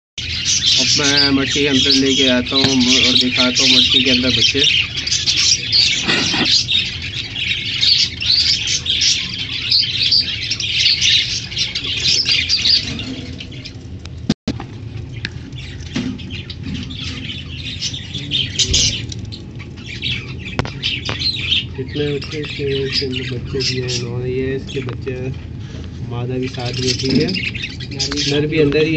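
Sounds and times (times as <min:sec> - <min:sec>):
budgerigars chirping: 0:00.2 - 0:13.8, 0:15.2 - 0:25.4, 0:26.2 - 0:28.9.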